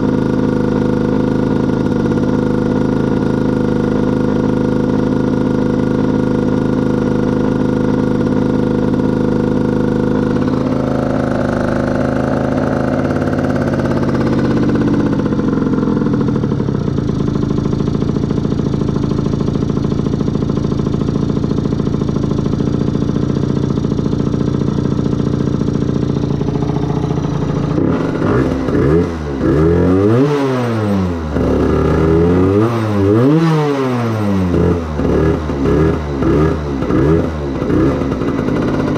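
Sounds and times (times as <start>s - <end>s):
two-stroke motorbike engine idling: 0.0s - 38.9s.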